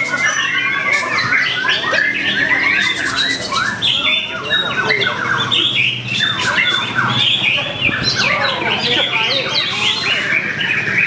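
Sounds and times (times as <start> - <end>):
other songbirds singing: 0.0 - 11.0
songbird singing varied phrases: 0.0 - 11.0.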